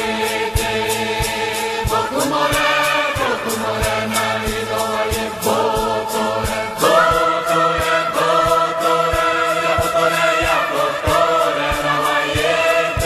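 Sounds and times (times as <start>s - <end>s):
choir-like singing: 0.0s - 13.0s
low thumping beat: 0.0s - 13.0s.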